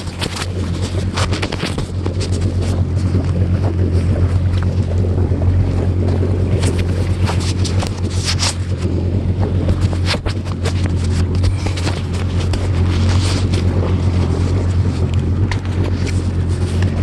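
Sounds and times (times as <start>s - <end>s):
jet ski engine humming: 0.0s - 17.0s
wind buffeting microphone: 0.0s - 17.0s.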